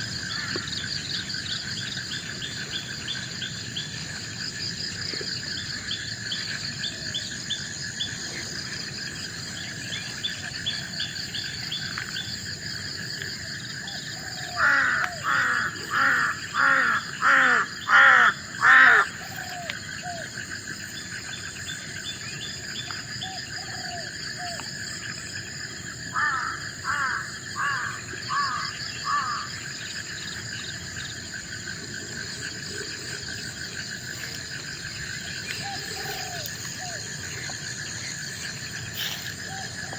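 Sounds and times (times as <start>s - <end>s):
insects droning: 0.0s - 39.9s
loud bird calls: 5.1s - 25.2s, 26.0s - 39.9s.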